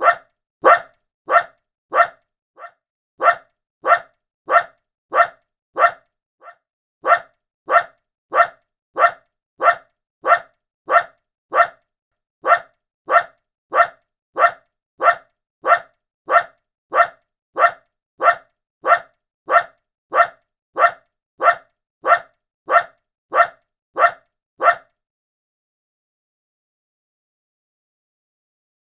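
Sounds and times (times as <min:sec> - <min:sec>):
small dog barking: 0:00.0 - 0:11.8, 0:12.4 - 0:24.9.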